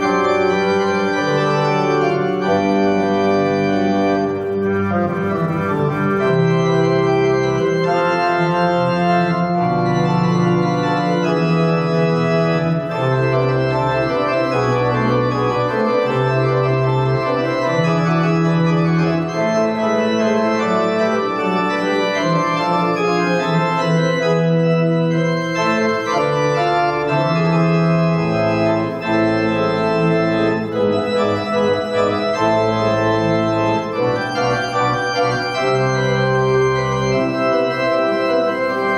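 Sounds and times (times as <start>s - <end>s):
slow organ chords: 0.0s - 38.9s.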